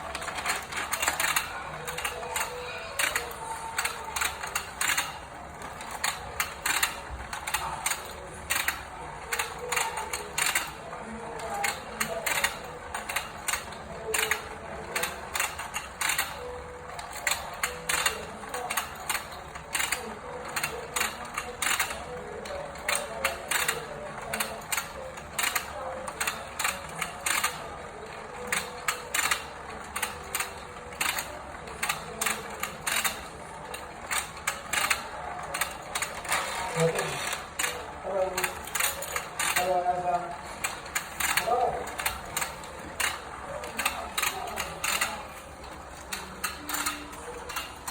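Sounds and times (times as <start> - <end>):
plastic toy mechanism clicking: 0.0 - 47.9.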